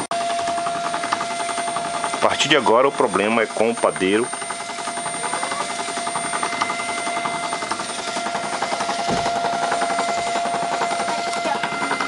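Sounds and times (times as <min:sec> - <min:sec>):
dough machine motor whining: 0:00.0 - 0:12.0
rapid mechanical pulsing: 0:00.0 - 0:12.0.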